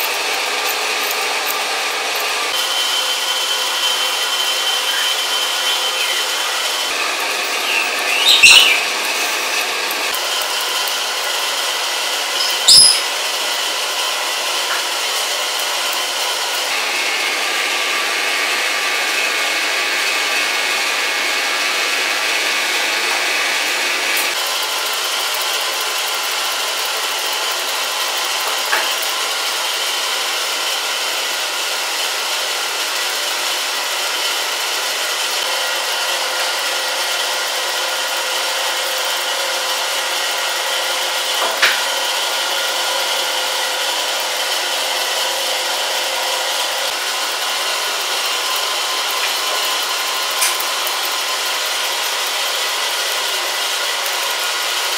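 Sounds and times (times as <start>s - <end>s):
electric clipper buzzing: 0.0s - 54.9s.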